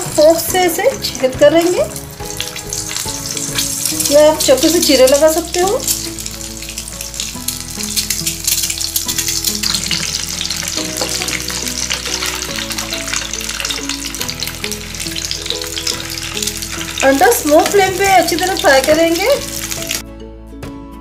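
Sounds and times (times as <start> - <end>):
eggs sizzling in hot oil: 0.0 - 20.0
background music: 0.0 - 21.0.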